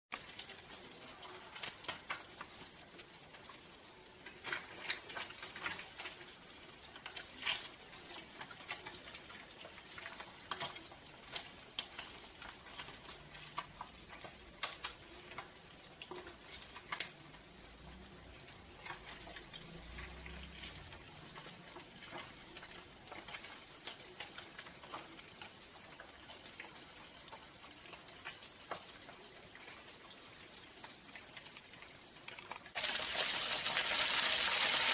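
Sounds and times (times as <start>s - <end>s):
fish sizzling in hot oil: 0.1s - 34.9s
oil crackling and popping: 0.1s - 34.9s.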